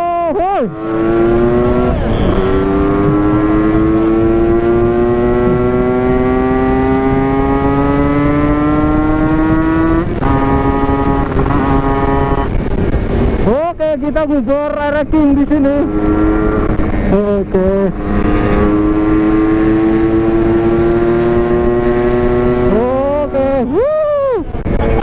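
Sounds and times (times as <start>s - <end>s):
motorcycle engine accelerating: 0.6s - 13.6s, 14.9s - 23.7s.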